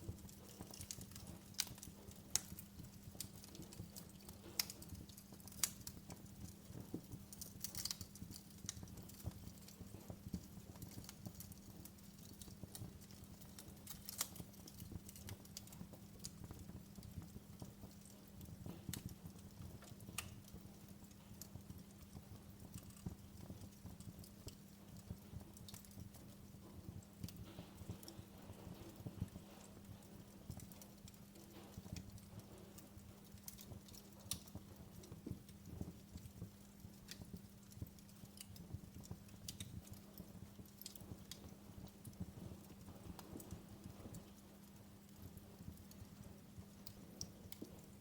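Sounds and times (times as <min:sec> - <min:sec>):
faint low hum: 0:00.0 - 0:48.0
wood fire crackling: 0:00.0 - 0:48.0.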